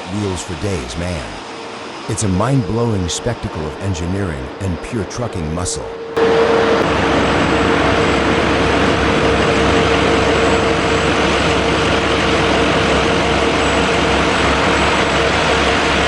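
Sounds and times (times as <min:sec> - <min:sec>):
mid-pitched whine: 0:00.0 - 0:16.0.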